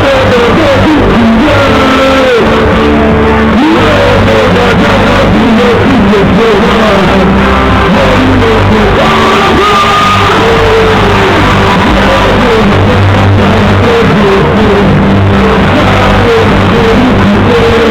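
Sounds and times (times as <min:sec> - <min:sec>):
live music with steady bass: 0:00.0 - 0:17.9
person singing and shouting: 0:00.0 - 0:17.9.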